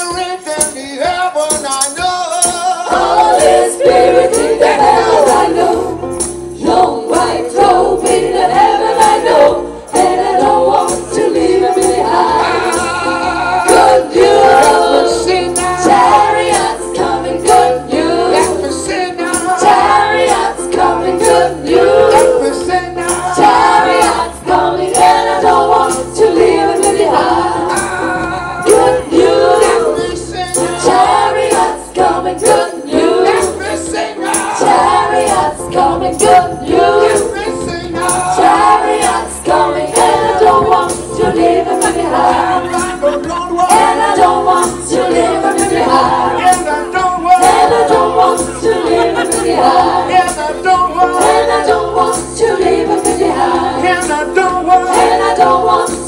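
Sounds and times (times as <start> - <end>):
tambourine beat: 0.0 - 56.0
choir singing in harmony: 2.4 - 56.0.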